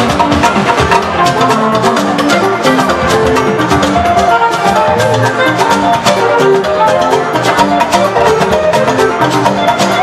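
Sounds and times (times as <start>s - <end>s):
loud party music: 0.0s - 10.0s
quick steady drum beat: 0.0s - 10.0s.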